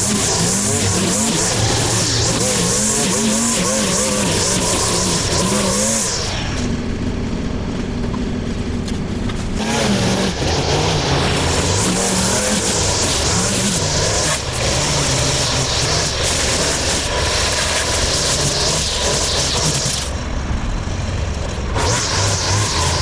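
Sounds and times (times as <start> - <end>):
string trimmer cutting grass: 0.0 - 6.8, 9.2 - 20.3, 21.4 - 23.0.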